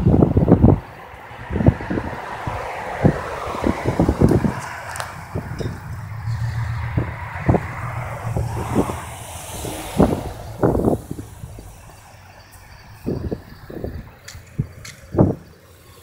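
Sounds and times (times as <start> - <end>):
cars driving past: 0.4 - 16.0
wind thumps on microphone: 1.4 - 15.5.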